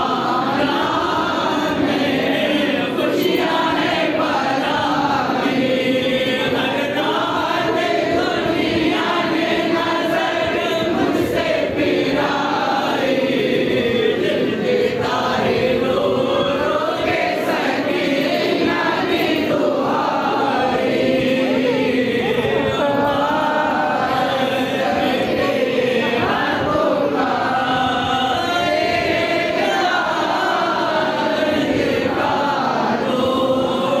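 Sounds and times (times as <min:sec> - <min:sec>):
crowd chanting and singing: 0:00.0 - 0:34.0
crowd noise: 0:00.0 - 0:34.0.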